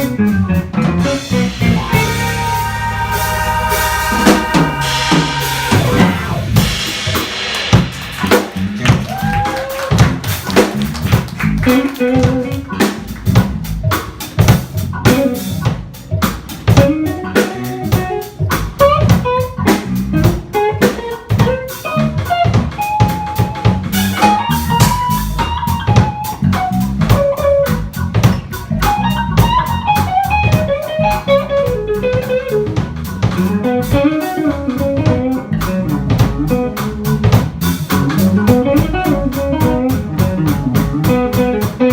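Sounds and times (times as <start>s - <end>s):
guitar melody: 0.0s - 7.2s, 10.0s - 14.1s, 14.7s - 41.9s
bass: 0.0s - 41.9s
drum kit: 0.0s - 41.9s.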